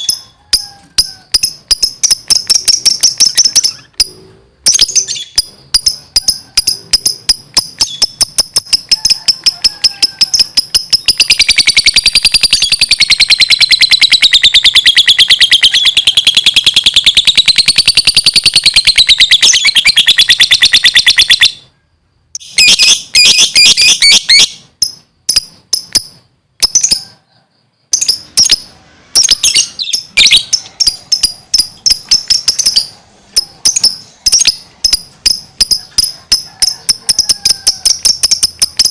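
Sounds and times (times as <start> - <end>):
bird trilling: 0.0 - 21.7, 28.0 - 38.9
bird chirping: 0.0 - 38.9.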